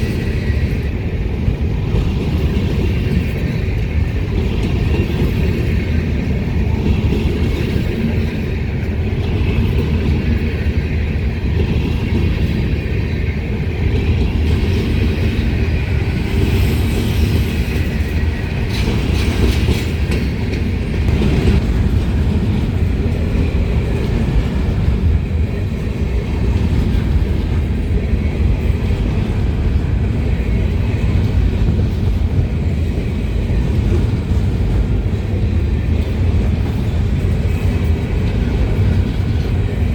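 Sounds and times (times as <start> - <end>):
train clanks: 0.0 - 39.9
train wheels rumbling on rails: 0.0 - 39.9.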